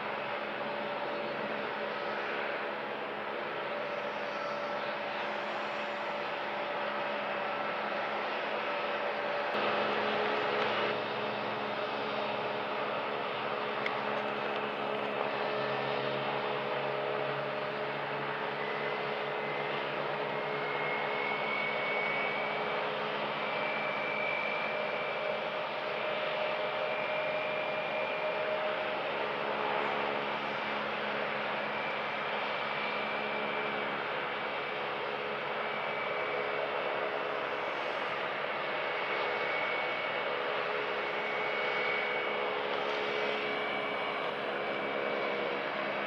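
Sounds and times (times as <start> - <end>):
faint steady tones: 0.0 - 46.0
high engine whine: 0.0 - 46.0
jet engines rushing: 0.1 - 46.0.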